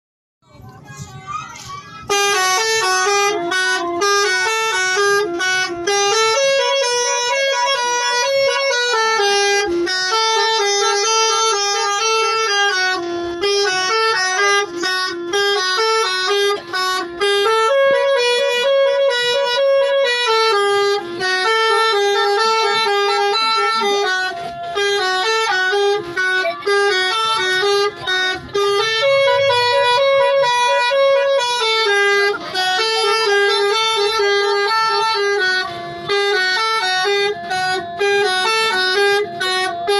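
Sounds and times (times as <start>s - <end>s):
bus air horn melody: 1.5s - 39.9s.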